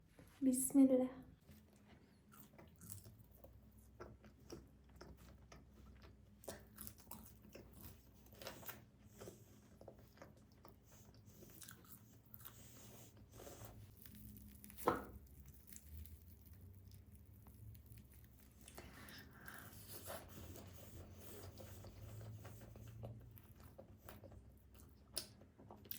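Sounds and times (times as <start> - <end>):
chewing and biting pizza: 2.2 - 25.9.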